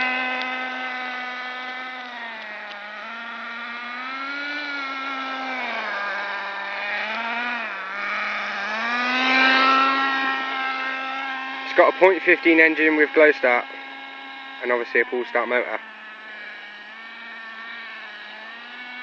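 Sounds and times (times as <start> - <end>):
model car nitro engine buzzing: 0.0 - 19.0.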